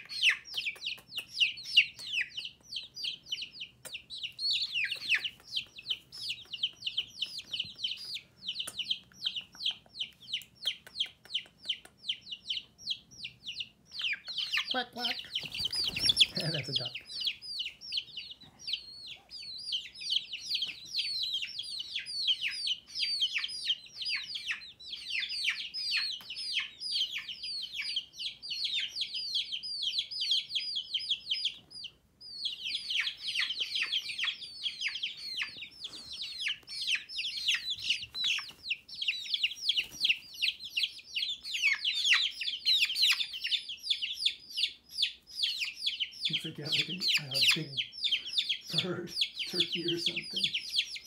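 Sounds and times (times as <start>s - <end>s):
baby chicks peeping: 0.0s - 51.0s.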